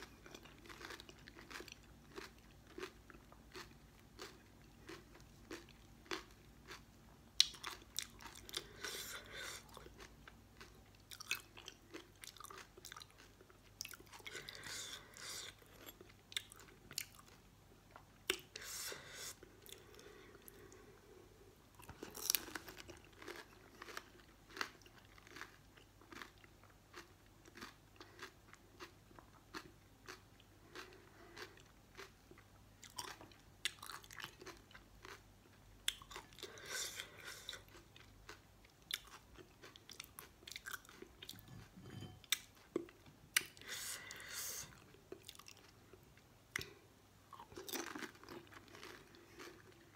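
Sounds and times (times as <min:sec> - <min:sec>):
crisp shells crunching being chewed: 0:00.0 - 0:18.5, 0:21.8 - 0:41.6, 0:46.5 - 0:49.9.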